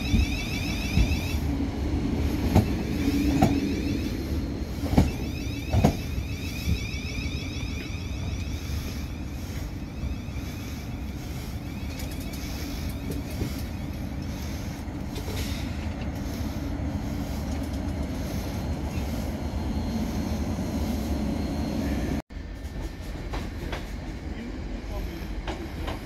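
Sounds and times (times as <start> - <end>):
electric train rumbling past: 0.0 - 26.0.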